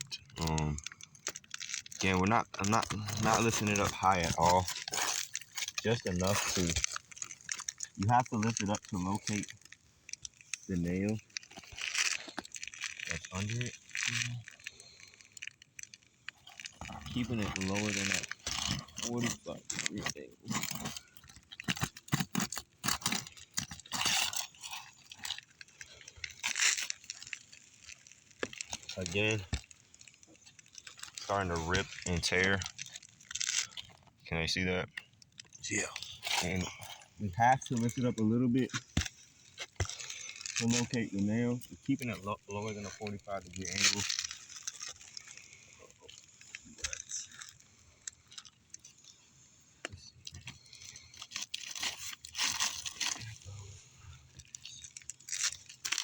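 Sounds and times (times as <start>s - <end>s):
shingles crunching and tearing: 0.0s - 34.1s, 34.8s - 56.0s.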